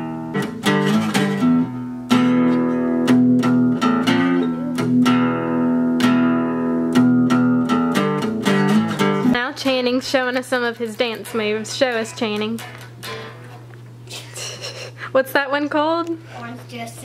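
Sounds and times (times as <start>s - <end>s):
acoustic guitar picking and strumming: 0.0s - 17.0s.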